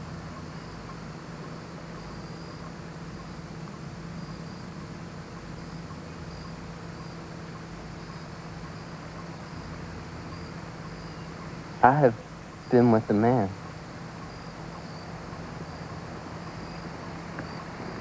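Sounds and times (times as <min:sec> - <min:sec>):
crickets chirping: 0:00.0 - 0:18.0
low hum and hiss: 0:00.0 - 0:18.0.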